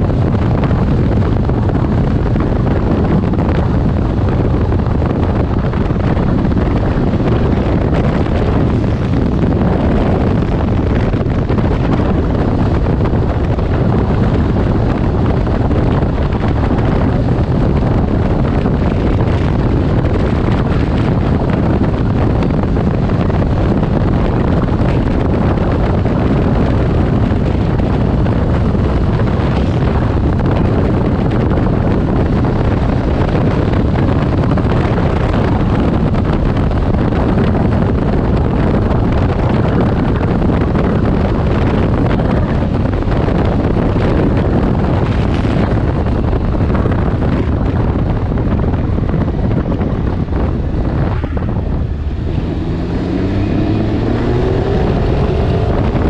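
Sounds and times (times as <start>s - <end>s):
road noise: 0.0s - 56.0s
vehicle engine: 0.0s - 56.0s
wind buffeting microphone: 0.0s - 56.0s.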